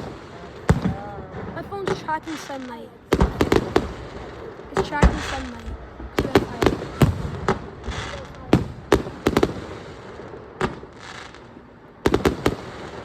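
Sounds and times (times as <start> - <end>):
fireworks bangs: 0.0 - 13.0
fireworks hissing: 0.0 - 13.0.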